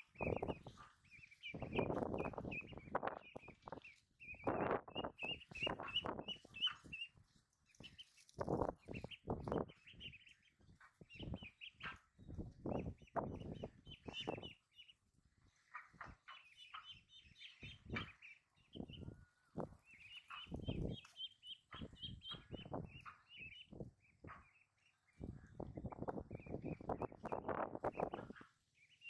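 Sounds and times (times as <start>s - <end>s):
ducklings peeping: 0.0s - 29.0s.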